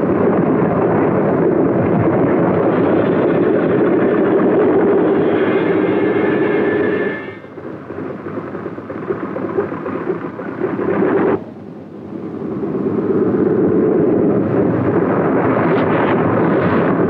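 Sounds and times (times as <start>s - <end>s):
biplane propeller engine drone: 0.0s - 17.0s.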